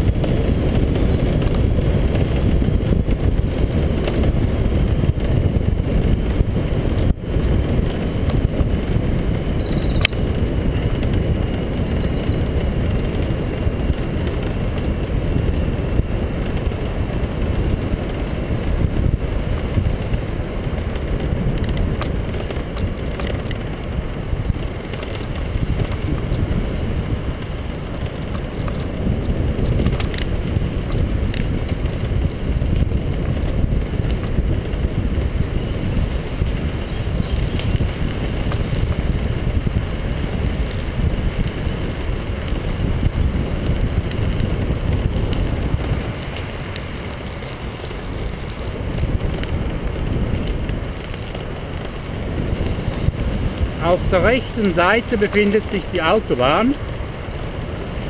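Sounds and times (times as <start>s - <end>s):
tyre rumble on rough pavement: 0.0s - 58.0s
wind buffeting microphone: 0.0s - 58.0s.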